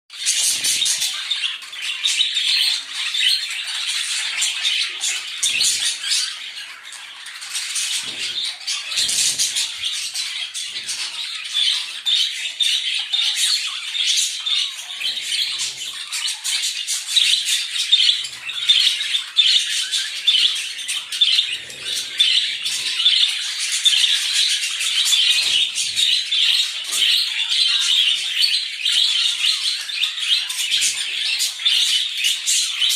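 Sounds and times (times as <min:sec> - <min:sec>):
birds chirping and squawking: 0:00.1 - 0:32.9.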